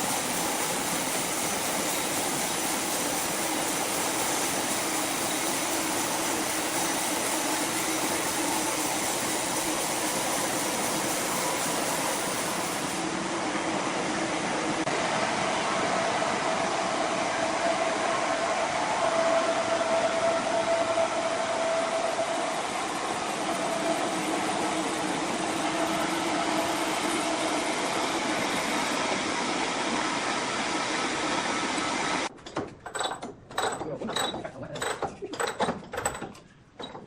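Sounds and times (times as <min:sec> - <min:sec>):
sawmill saw running: 0:00.0 - 0:13.2, 0:14.7 - 0:32.3.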